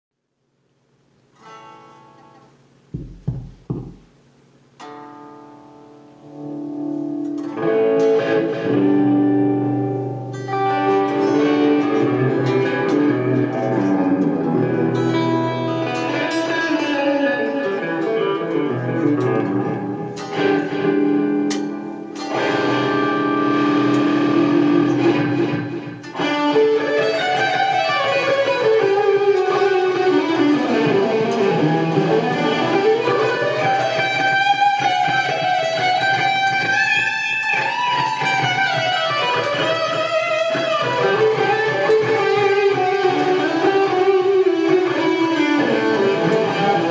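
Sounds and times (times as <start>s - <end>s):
guitar music through speaker: 4.8s - 46.9s.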